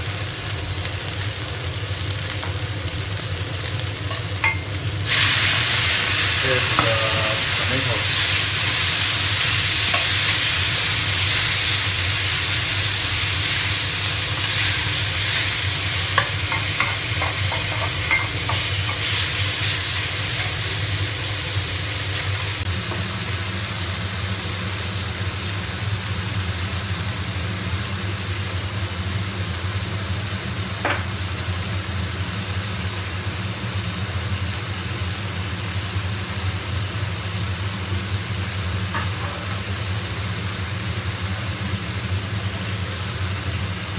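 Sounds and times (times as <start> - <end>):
tomatoes sizzling in hot oil: 0.0 - 43.9.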